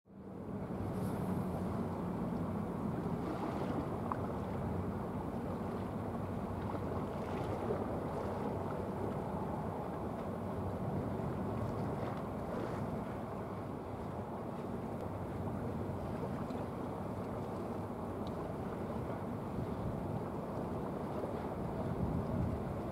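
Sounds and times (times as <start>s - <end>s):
ship engine drone: 0.1s - 22.8s
wind and water noise: 0.1s - 22.9s.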